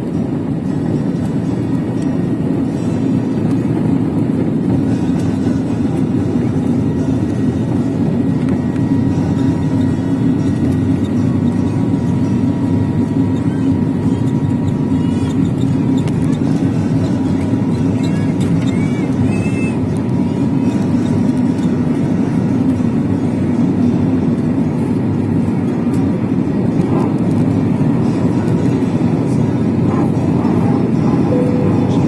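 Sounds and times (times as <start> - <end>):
faint steady whine: 0.0 - 32.0
jet engine cabin drone: 0.0 - 32.0.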